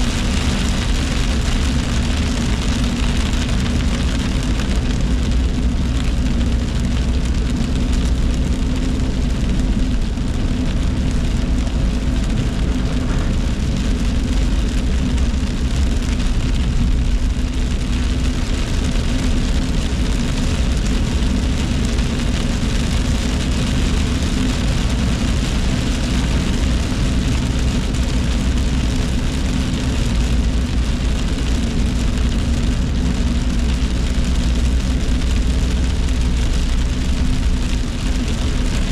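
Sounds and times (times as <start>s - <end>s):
car engine and tyre rumble: 0.0s - 38.9s
rain on windshield: 0.0s - 38.9s
tyres hissing on wet road: 0.0s - 38.9s.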